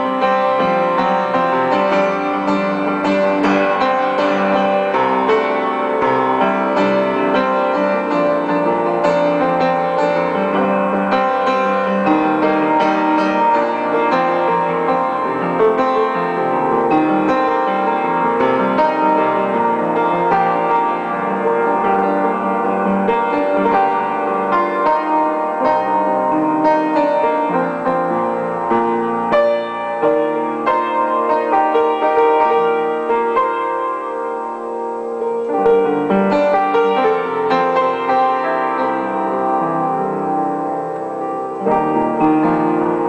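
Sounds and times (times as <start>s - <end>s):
solo upright piano: 0.0s - 43.0s.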